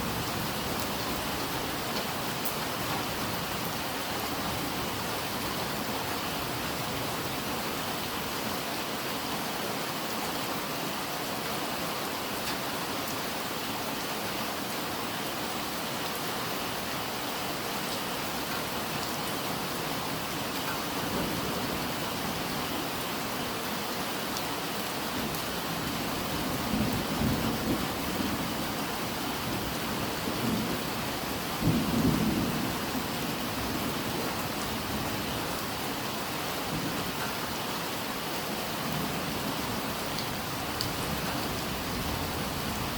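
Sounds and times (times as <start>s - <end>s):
rain falling: 0.0s - 42.9s.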